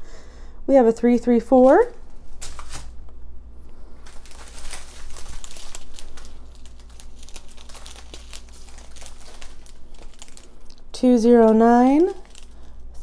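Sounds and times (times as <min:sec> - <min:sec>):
plastic bags crinkling: 0:01.6 - 0:03.0, 0:03.9 - 0:13.0.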